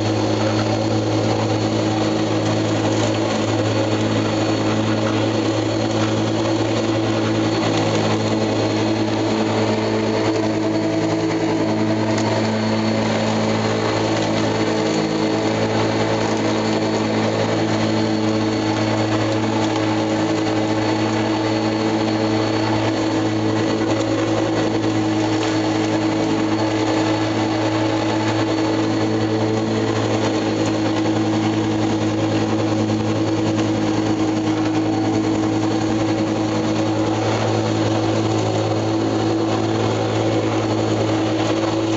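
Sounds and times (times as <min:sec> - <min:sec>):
lawnmower running: 0:00.0 - 0:41.9.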